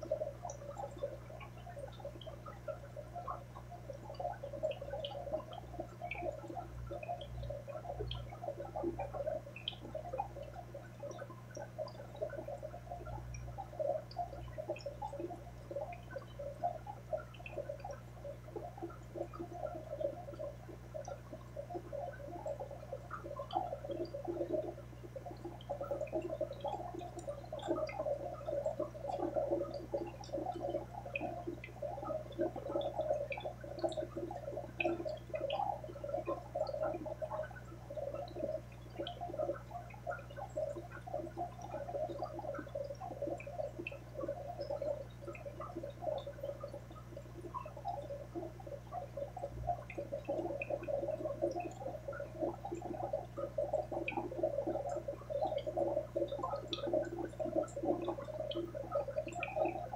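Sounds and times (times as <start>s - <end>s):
aquarium water bubbling: 0.0s - 59.9s.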